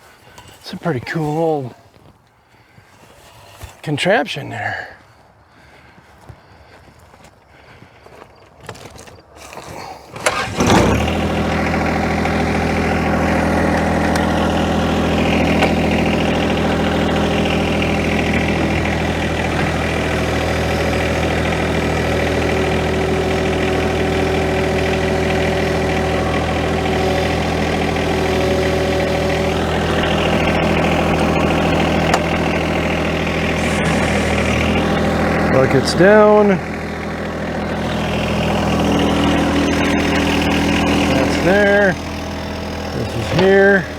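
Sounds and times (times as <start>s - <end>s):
diesel tractor engine starting and idling: 0.0s - 1.8s, 9.8s - 43.9s.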